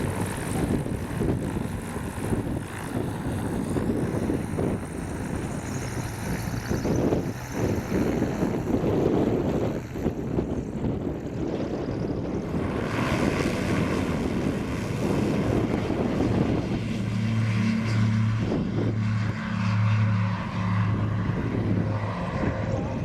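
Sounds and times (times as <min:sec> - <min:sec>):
propeller aircraft engine running: 0:00.0 - 0:23.0.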